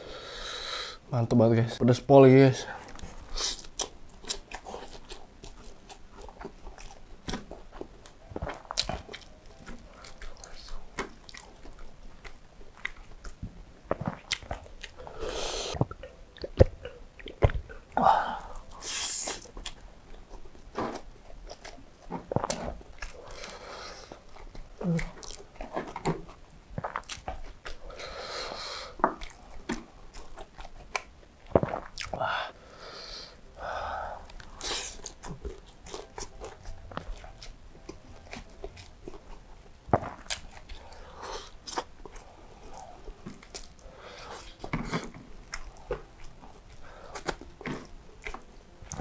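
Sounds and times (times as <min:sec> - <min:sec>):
wet chewing and biting: 0:02.8 - 0:15.1, 0:15.7 - 0:28.1, 0:29.0 - 0:32.2, 0:34.2 - 0:49.0.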